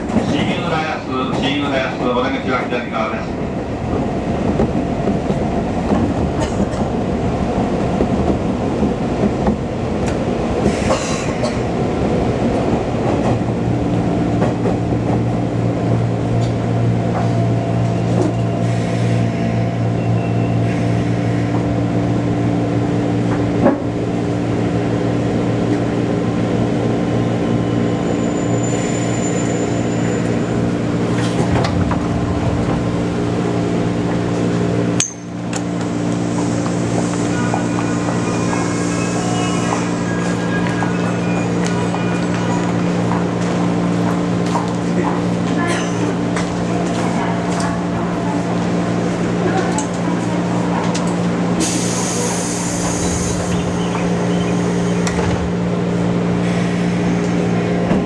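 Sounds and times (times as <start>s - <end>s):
train hum with low tones: 0.0s - 58.0s
train wheel and rail noise: 0.0s - 58.0s.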